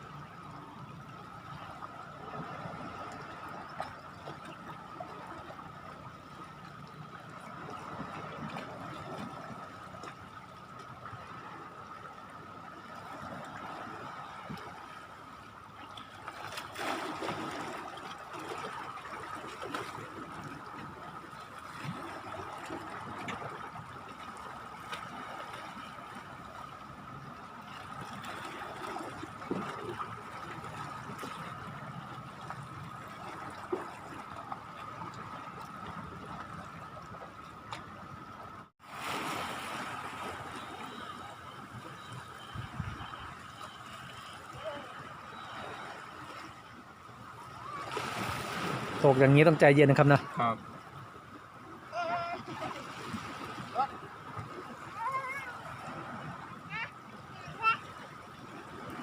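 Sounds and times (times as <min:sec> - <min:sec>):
water lapping at shore: 0:00.0 - 0:59.0.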